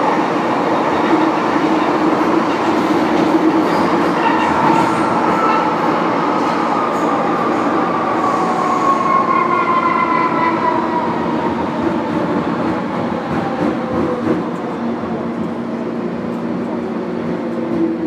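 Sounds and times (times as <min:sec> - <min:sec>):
train running on rails: 0:00.0 - 0:18.0.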